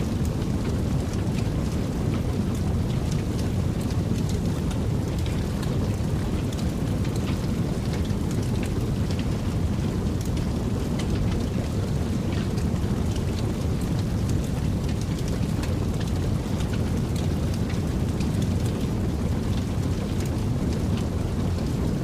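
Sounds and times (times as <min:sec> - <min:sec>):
fire burning with crackles: 0:00.0 - 0:22.0.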